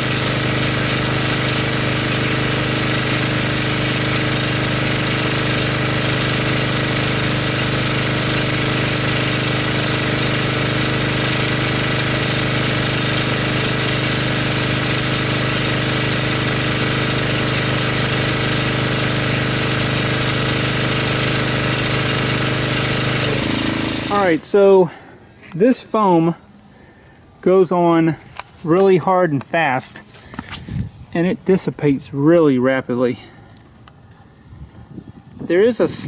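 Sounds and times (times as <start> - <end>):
pressure washer motor hum: 0.0 - 36.0.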